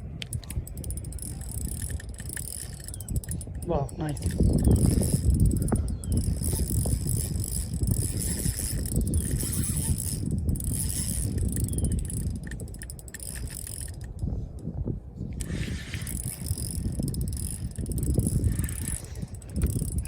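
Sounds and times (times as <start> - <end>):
fishing reel ratcheting: 0.1 - 14.3, 15.4 - 20.0.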